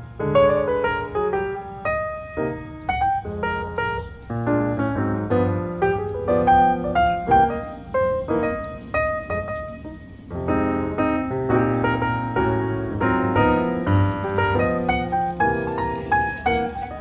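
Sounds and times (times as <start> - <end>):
piano melody with bass notes: 0.0 - 17.0.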